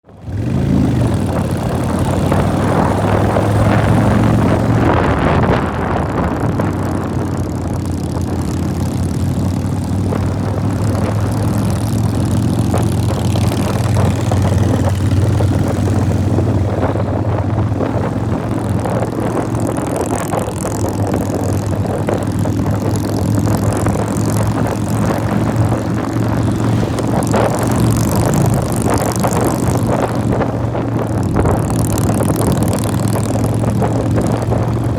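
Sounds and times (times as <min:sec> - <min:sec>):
motorcycle engine cruising: 0:00.0 - 0:34.9
rush of noise: 0:00.2 - 0:34.9.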